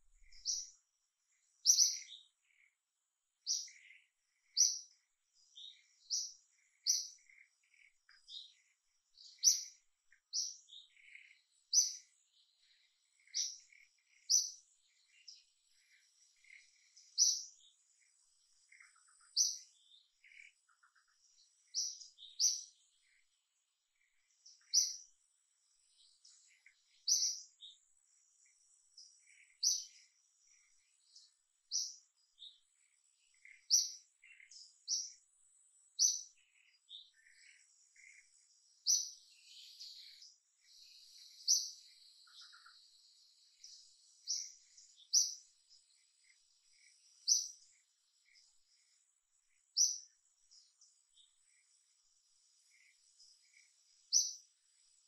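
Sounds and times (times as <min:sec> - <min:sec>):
bird high chirps: 0:00.0 - 0:00.8, 0:01.4 - 0:02.8, 0:03.4 - 0:23.3, 0:23.9 - 0:25.2, 0:25.8 - 0:35.2, 0:35.9 - 0:51.7, 0:52.6 - 0:55.0.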